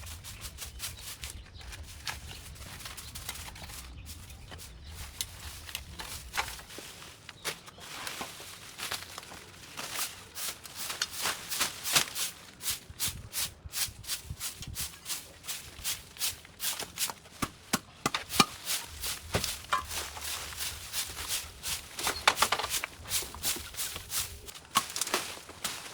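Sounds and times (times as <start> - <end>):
rustling strokes through dry vegetation: 0.0 - 25.9.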